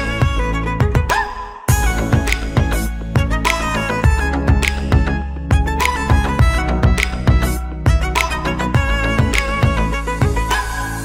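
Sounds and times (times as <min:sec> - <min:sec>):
low kick drum: 0:00.0 - 0:10.6
violin-led electronic music: 0:00.0 - 0:11.0.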